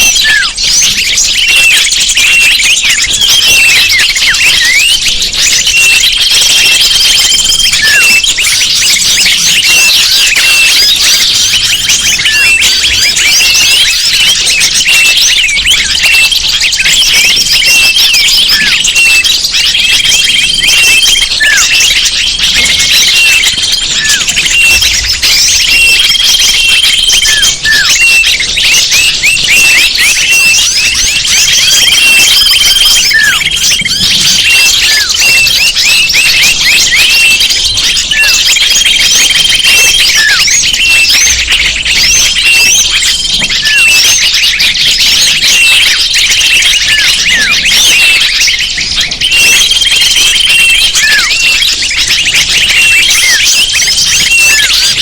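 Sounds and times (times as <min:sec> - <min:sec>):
chorus of small birds chirping: 0:00.0 - 0:55.0
flat bird whistles: 0:00.0 - 0:55.0.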